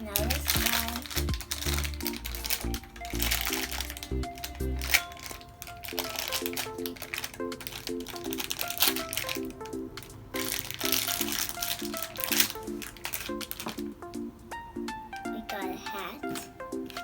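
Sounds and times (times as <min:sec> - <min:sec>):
plastic bag crinkling and tearing: 0:00.0 - 0:14.0, 0:15.5 - 0:17.0
light background music: 0:00.0 - 0:17.0.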